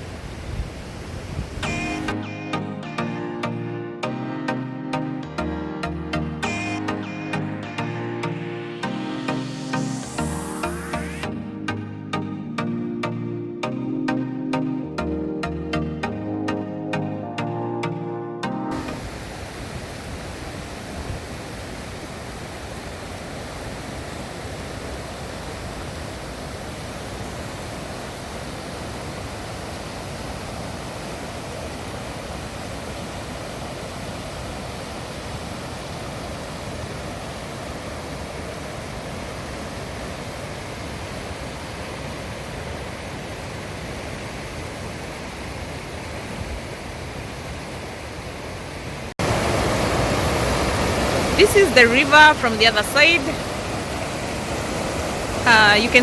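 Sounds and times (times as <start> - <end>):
river and waterfalls rushing: 0.0 - 18.1, 18.7 - 56.0.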